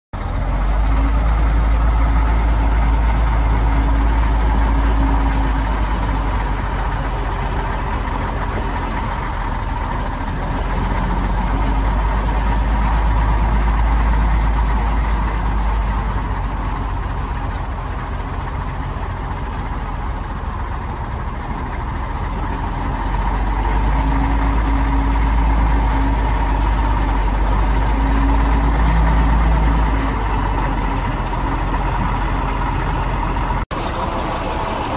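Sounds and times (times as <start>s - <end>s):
diesel engine rumbling: 0.1s - 34.9s.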